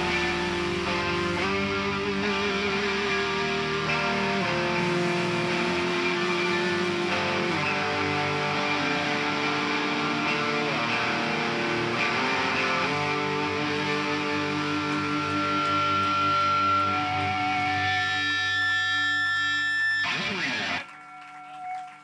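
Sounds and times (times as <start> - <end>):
distorted electric guitars and bass: 0.0 - 22.0
high steady feedback tone: 0.0 - 22.0.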